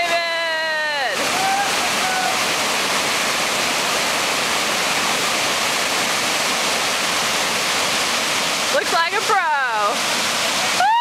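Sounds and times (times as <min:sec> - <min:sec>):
river rapid rushing: 0:00.0 - 0:11.0.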